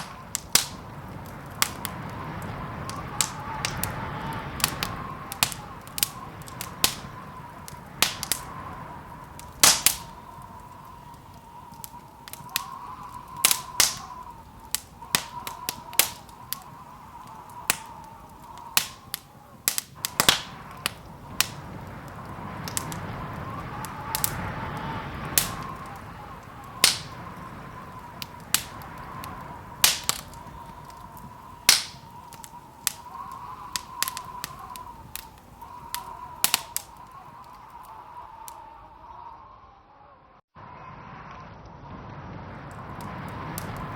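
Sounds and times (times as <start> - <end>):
rushing fire noise: 0.0 - 39.2, 40.6 - 43.9
wood fire crackling: 0.0 - 39.3, 42.4 - 43.9.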